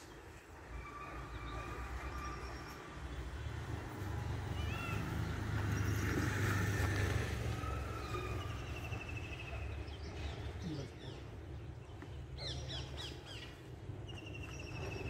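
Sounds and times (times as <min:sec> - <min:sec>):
birds calling and chirping: 0:00.0 - 0:15.0.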